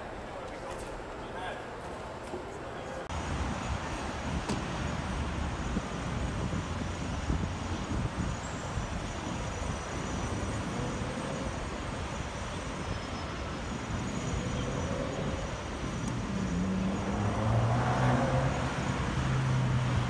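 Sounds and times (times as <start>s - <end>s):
city traffic roar: 0.0s - 20.0s.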